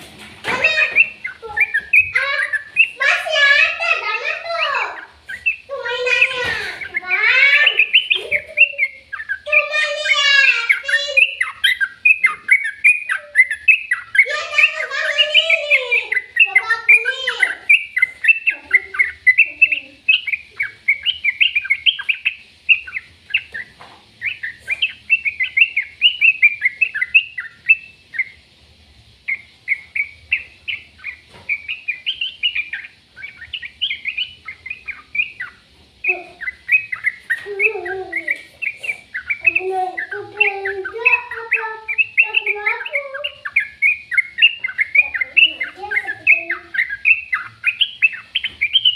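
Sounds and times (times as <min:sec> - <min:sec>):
birds chirping: 0:00.0 - 0:48.9
harsh bird calls: 0:00.0 - 0:48.9.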